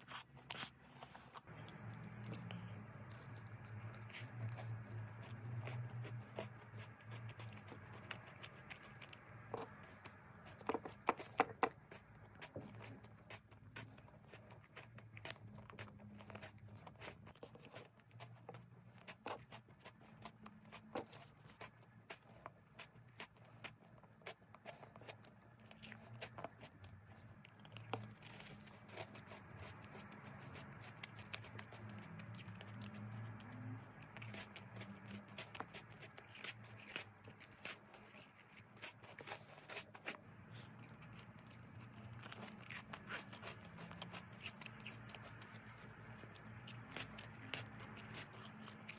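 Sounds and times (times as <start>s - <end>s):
chewing crunchy ice cream bar: 0.0s - 48.9s
low steady hum: 0.0s - 48.9s.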